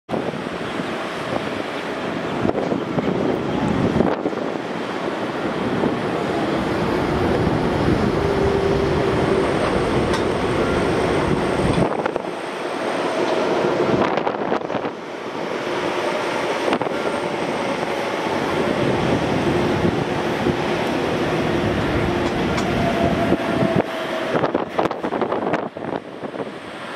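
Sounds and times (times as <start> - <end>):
jet engines idling: 0.3 - 26.9.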